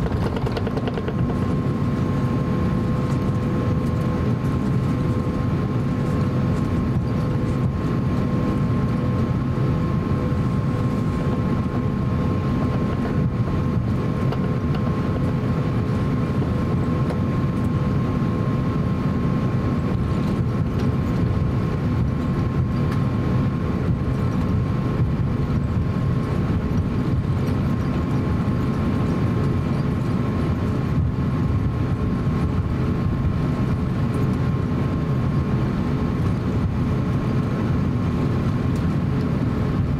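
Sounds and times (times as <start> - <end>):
aircraft cabin low rumble: 0.0 - 39.9
jet engine high whine: 0.0 - 39.9.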